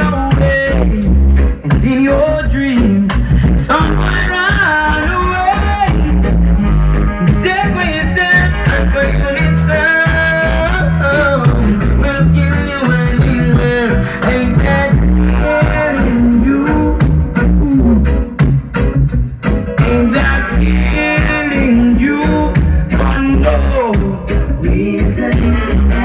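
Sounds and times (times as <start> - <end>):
person singing: 0.0 - 18.4, 19.8 - 26.0
heavy bass line music: 0.0 - 26.0.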